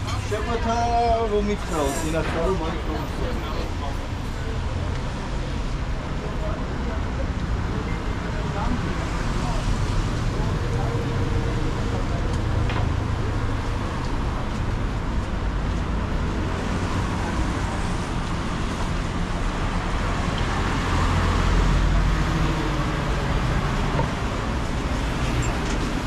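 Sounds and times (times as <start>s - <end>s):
traffic on a wet street: 0.0s - 26.0s.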